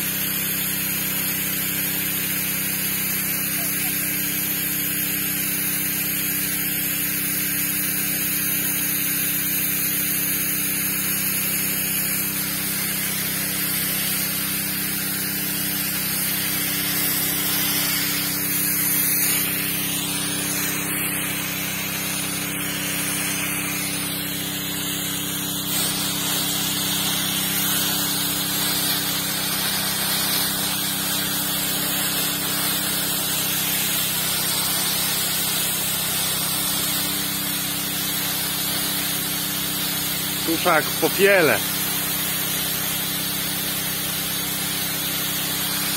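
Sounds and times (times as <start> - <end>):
water hose spraying onto soil: 0.0 - 45.9.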